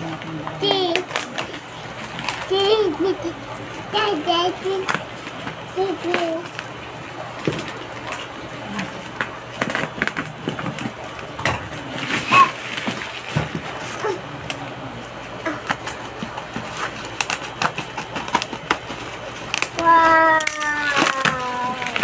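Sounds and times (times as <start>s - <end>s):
bubble wrap crinkling: 0.5s - 14.5s, 15.1s - 22.0s.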